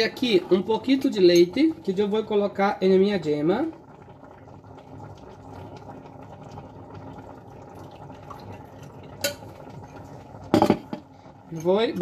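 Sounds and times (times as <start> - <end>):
pot bubbling while simmering: 0.0 - 12.0
milk pouring into a glass: 0.2 - 11.3.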